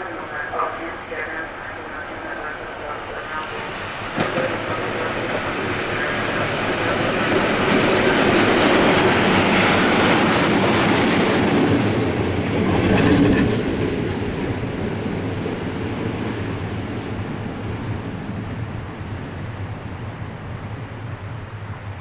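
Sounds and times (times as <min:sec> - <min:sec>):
train wheels clattering over rails: 0:03.2 - 0:22.0.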